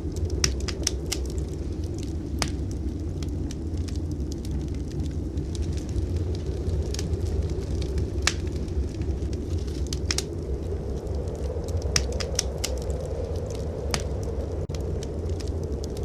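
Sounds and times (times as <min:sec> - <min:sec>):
blizzard wind rumble: 0:00.0 - 0:16.0
fire pops: 0:00.0 - 0:16.0
wood fire crackling: 0:00.0 - 0:16.0.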